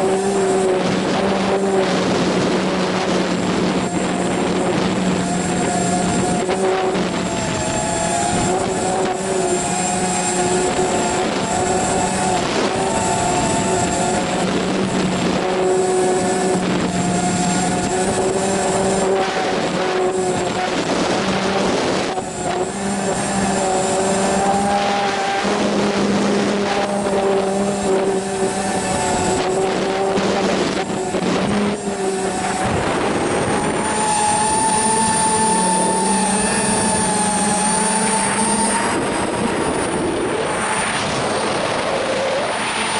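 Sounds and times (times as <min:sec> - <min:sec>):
model plane motor whining: 0:00.0 - 0:42.9
wind rushing over microphone: 0:00.0 - 0:42.9.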